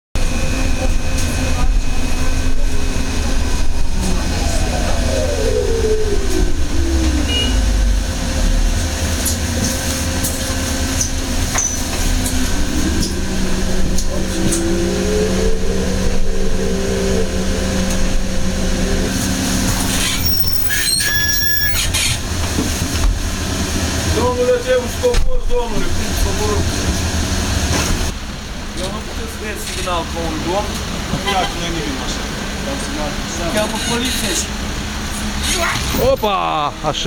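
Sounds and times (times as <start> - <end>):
rising whine: 0.2 - 30.9
bus drivetrain rumble: 0.2 - 37.0.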